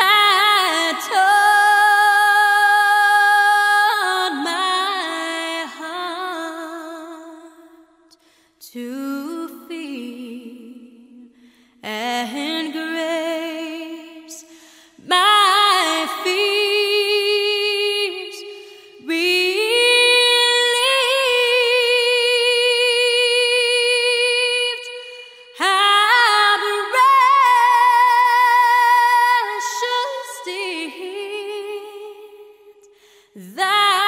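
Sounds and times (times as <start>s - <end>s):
woman singing with vibrato: 0.0s - 7.9s, 8.6s - 34.0s.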